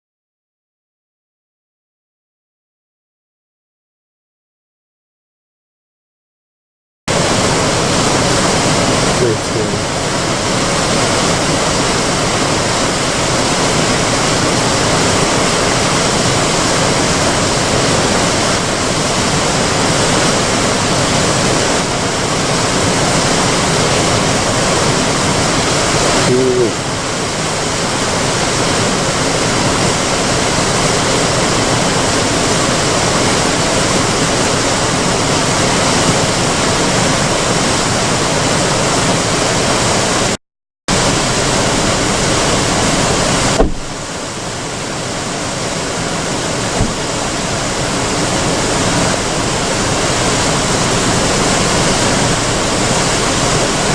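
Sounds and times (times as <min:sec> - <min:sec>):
river water pouring over weir: 0:07.1 - 0:53.9.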